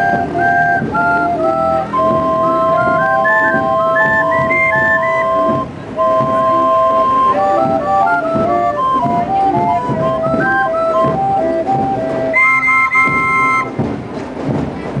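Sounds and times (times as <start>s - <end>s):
barrel organ playing a tune: 0.0s - 13.8s.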